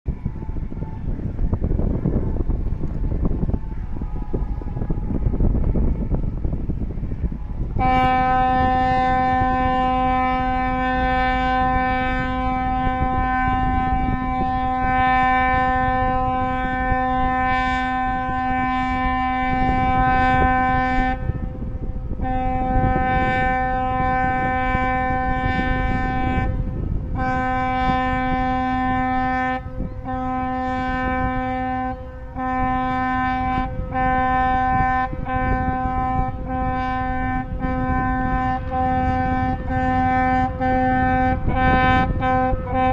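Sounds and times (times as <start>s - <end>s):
ship's horn blasts: 0.1s - 42.9s
steady low rumble: 0.1s - 42.9s.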